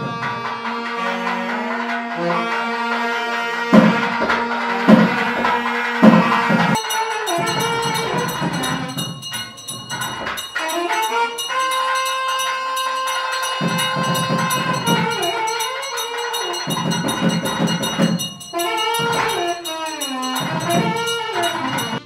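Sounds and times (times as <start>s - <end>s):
light steady percussion beat: 0.0s - 22.0s.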